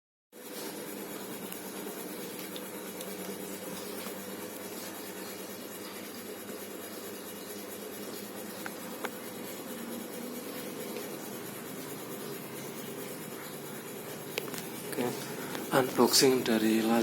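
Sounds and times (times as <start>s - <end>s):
background hiss and hum: 0.4s - 17.0s.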